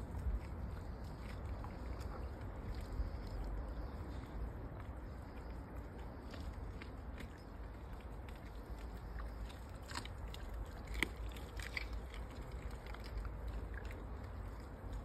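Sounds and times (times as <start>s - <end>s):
dog chewing wet crunches: 0.0s - 15.0s.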